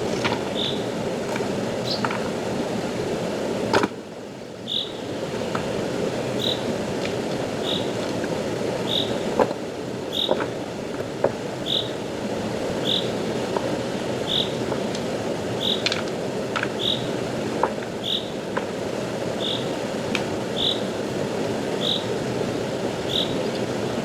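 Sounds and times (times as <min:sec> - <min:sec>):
stream rushing: 0:00.0 - 0:24.0.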